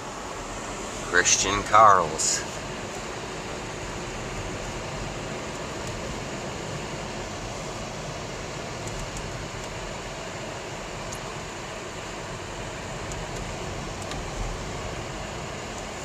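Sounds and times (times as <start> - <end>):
vehicle driving noise: 0.0 - 16.0.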